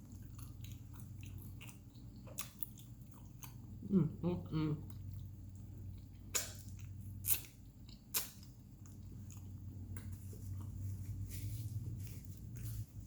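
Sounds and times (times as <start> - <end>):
chewing crunchy food: 0.0 - 3.8, 4.8 - 13.0
steady low hum: 0.0 - 13.0.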